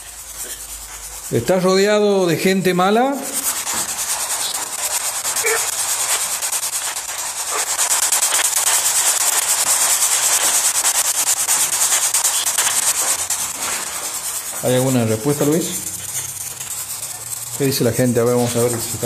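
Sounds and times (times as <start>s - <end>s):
radio static sweeping: 1.3s - 19.0s.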